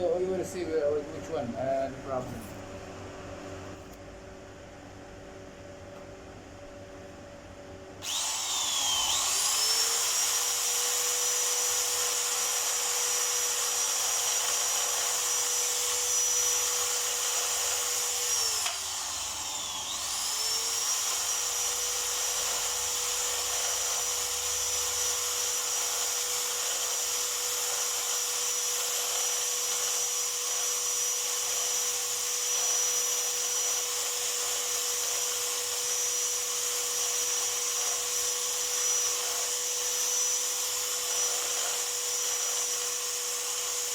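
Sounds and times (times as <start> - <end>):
electric tool motor whining: 8.0 - 43.9.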